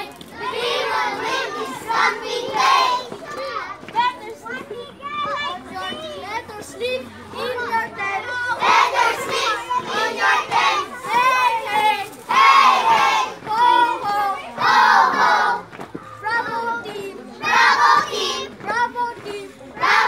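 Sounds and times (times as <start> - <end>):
children chanting and shouting: 0.0 - 20.0.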